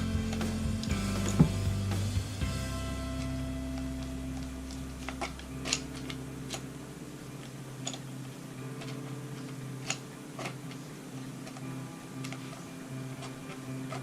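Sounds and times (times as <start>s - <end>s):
background music with held chord: 0.0s - 14.0s.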